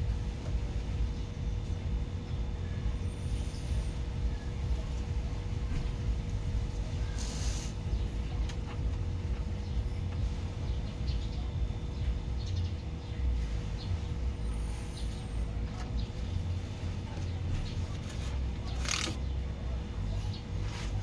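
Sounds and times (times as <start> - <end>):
faint steady whine: 0.0 - 21.0
vehicle engine running: 0.0 - 21.0.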